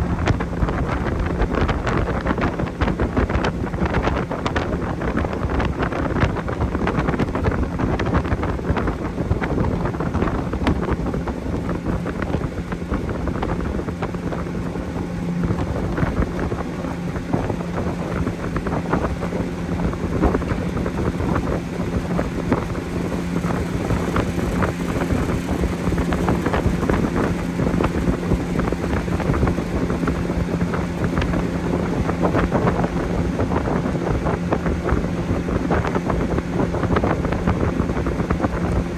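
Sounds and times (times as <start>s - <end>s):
motorboat engine drone: 0.0s - 38.9s
wind noise on microphone: 0.0s - 38.9s.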